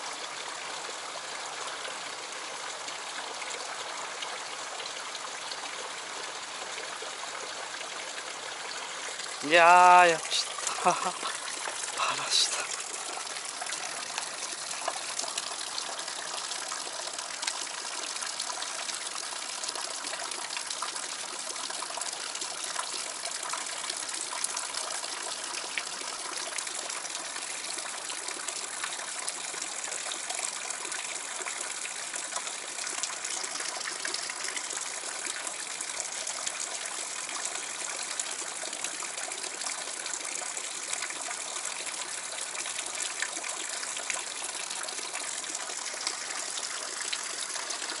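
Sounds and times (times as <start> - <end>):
water falling into a pool: 0.0 - 48.0.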